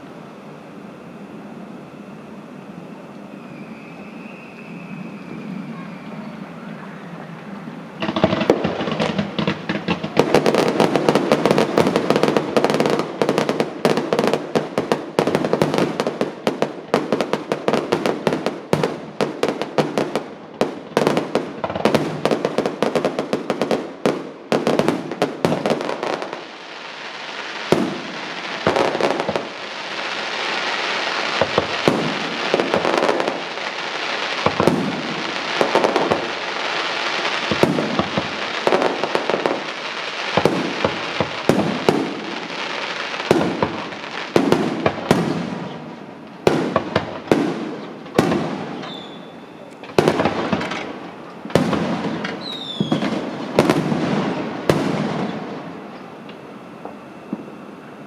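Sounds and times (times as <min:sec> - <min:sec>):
fireworks banging and crackling: 0:03.2 - 0:58.0.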